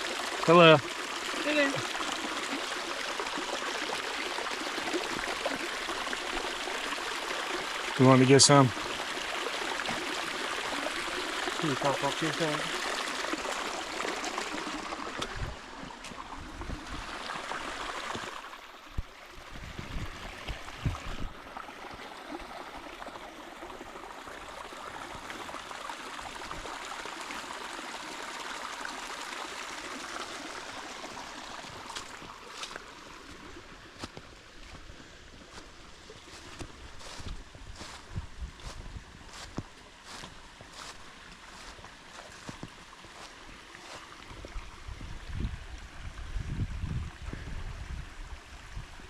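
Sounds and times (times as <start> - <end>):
spring water trickling: 0.0 - 48.8.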